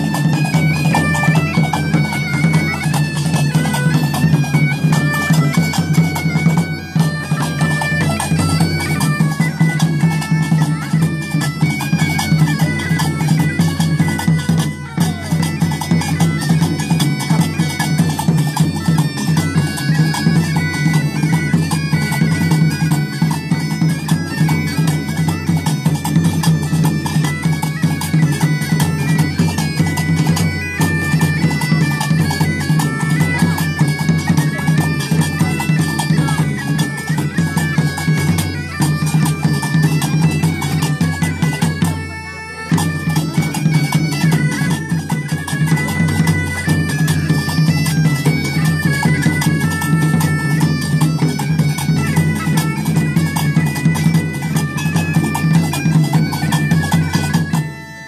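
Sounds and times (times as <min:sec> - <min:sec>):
bagpipe drone: 0:00.0 - 0:58.0
bagpipes playing a lively tune: 0:00.0 - 0:58.0
drum beating: 0:00.0 - 0:58.0.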